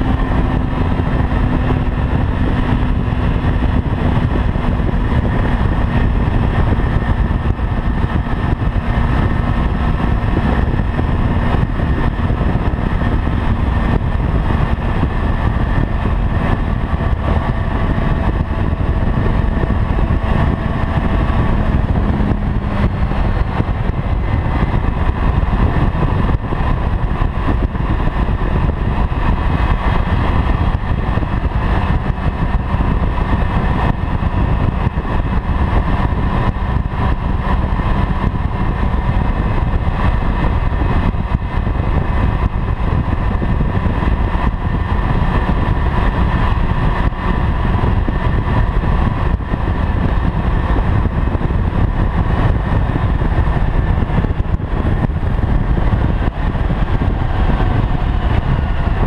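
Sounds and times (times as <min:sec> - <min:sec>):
motorcycle engine cruising: 0:00.0 - 0:59.0
wind on microphone: 0:00.0 - 0:59.0.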